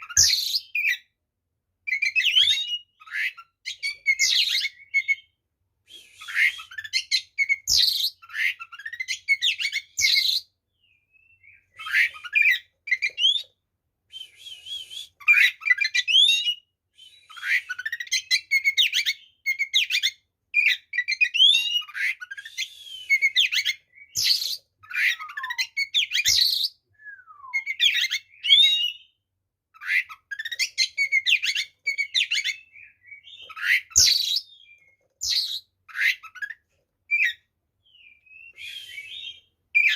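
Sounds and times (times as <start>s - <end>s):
bird singing: 0.0s - 1.2s, 1.8s - 5.4s, 6.0s - 13.6s, 14.2s - 39.9s.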